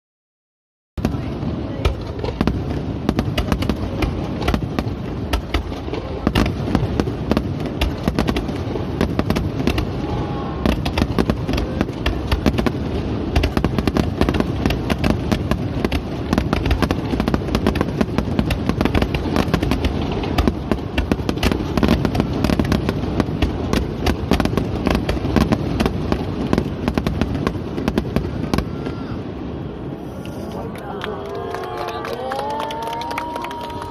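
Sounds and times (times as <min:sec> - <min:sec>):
fireworks bangs and crackles: 0:01.0 - 0:33.9.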